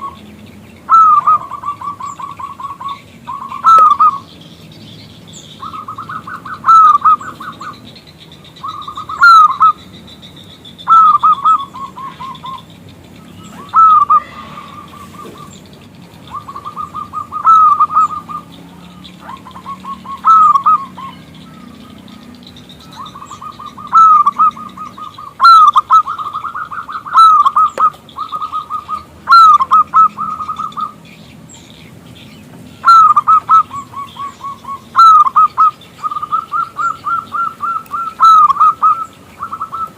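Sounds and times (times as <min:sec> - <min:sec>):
dove cooing: 0:00.0 - 0:04.4, 0:05.2 - 0:31.0, 0:32.8 - 0:39.9.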